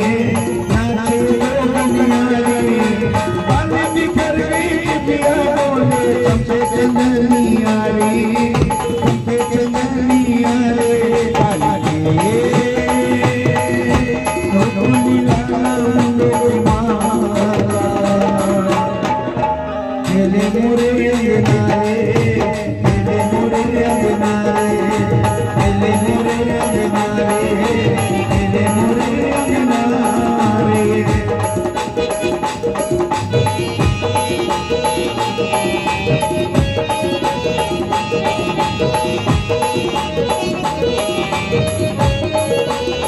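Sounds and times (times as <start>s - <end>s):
hand drums playing: 0.0s - 43.0s
harmonium and keyboard melody: 0.0s - 43.0s
rattling percussion: 0.0s - 43.0s.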